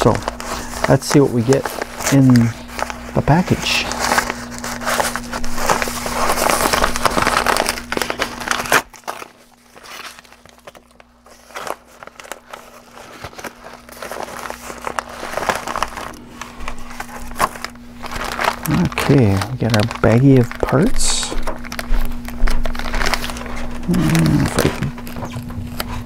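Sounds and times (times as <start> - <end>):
paper mailer tearing and crinkling: 0.0 - 26.0
plastic bag crinkling: 0.0 - 26.0
steady low hum: 0.0 - 26.0.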